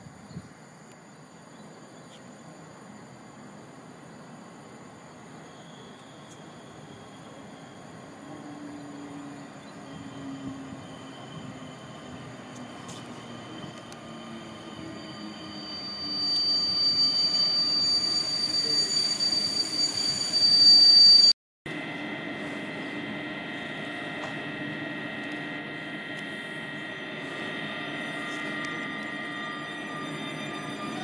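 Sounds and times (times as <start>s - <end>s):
train running with high whine: 0.0s - 31.0s
electric train braking squeal: 2.9s - 31.0s.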